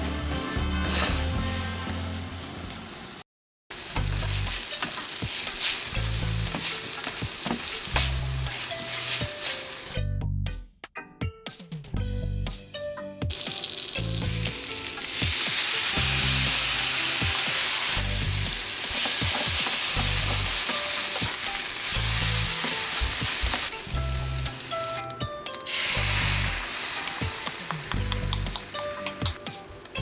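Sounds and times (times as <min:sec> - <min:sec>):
noodles sizzling in a pan: 0:00.0 - 0:10.0, 0:13.3 - 0:30.0.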